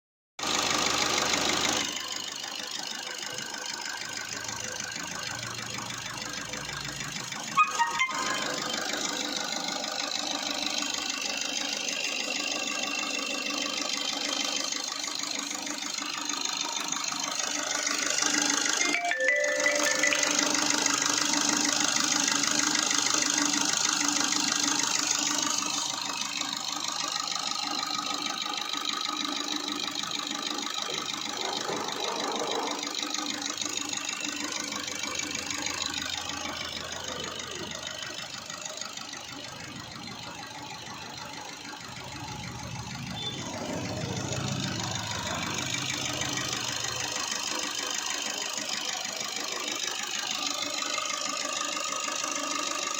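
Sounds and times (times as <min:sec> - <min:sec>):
diesel engine idling: 0:00.4 - 0:18.8, 0:19.4 - 0:52.9.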